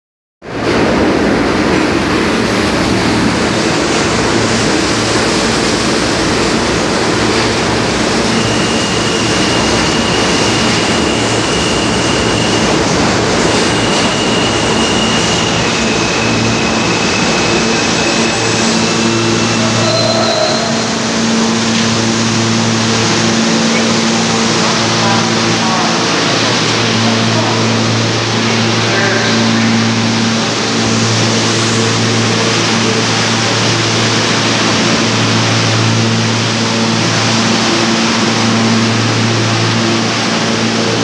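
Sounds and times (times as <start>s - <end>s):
high steady whine: 0.4s - 41.0s
subway train rumble and rattle: 0.4s - 41.0s.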